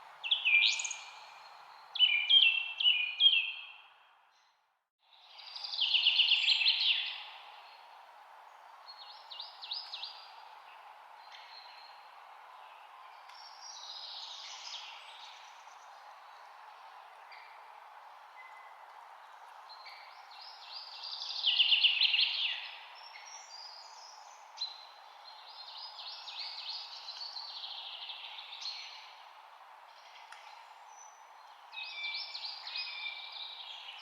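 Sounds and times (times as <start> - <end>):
songbirds singing: 0.0 - 7.9, 8.5 - 34.0.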